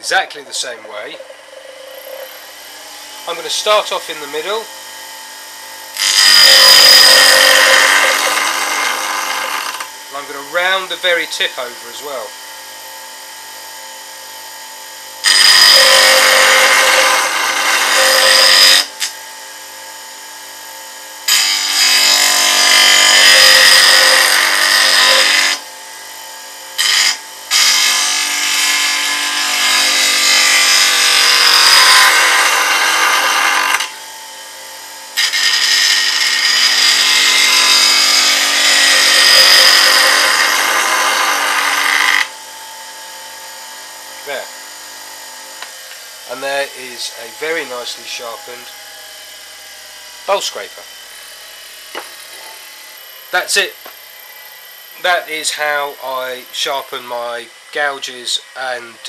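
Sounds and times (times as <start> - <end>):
grinder wheel grinding steel: 0.0 - 5.0, 5.9 - 12.4, 14.9 - 42.4, 43.6 - 59.0
grinder spinning freely: 0.0 - 59.0.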